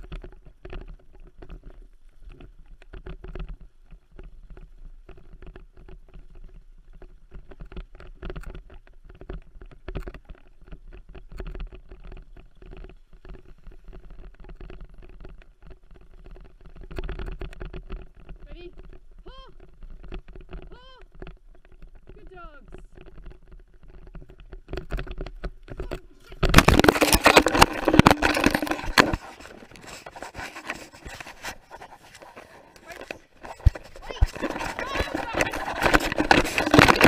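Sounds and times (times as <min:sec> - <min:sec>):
rig rattling and clicking: 0:00.0 - 0:37.0
rig rumbling on dirt trail: 0:00.0 - 0:37.0.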